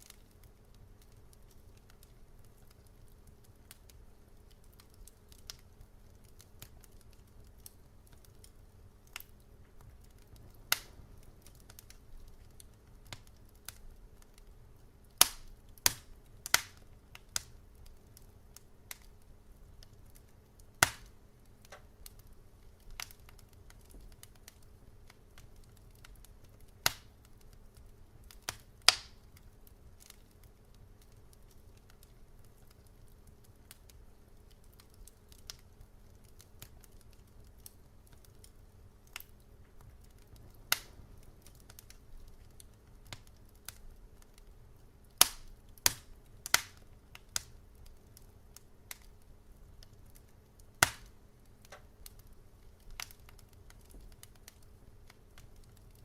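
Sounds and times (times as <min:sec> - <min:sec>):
faint low hum: 0:00.0 - 0:56.0
wood fire crackling: 0:00.0 - 0:56.0.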